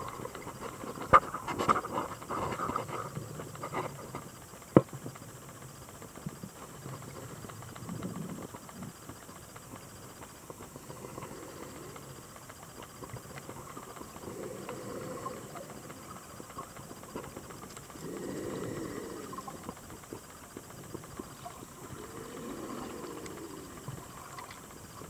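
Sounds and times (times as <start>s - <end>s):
underwater crackle of clicks: 0.0s - 25.0s.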